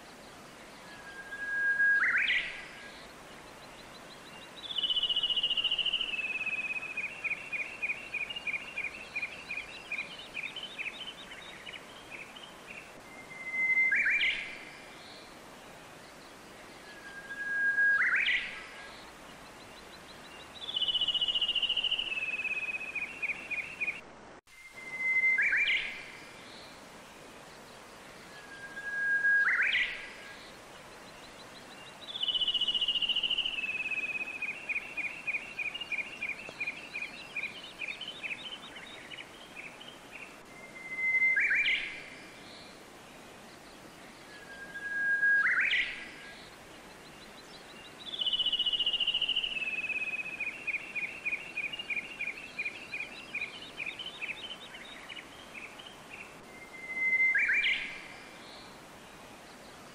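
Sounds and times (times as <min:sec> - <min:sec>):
running water hiss: 0:00.0 - 0:59.9
songbird singing: 0:00.0 - 0:59.9.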